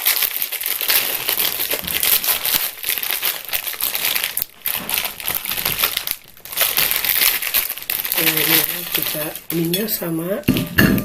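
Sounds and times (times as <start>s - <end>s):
plastic packet crinkling: 0.0s - 10.6s.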